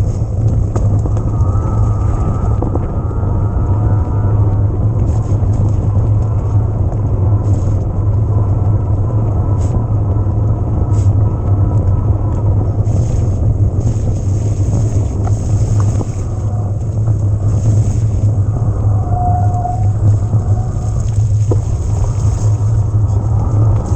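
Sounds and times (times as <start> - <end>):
wind and tyres rumbling: 0.0 - 23.9.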